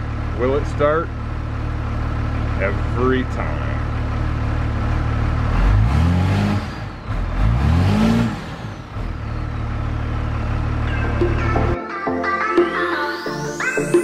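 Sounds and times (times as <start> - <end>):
diesel engine idling and revving: 0.0 - 11.8.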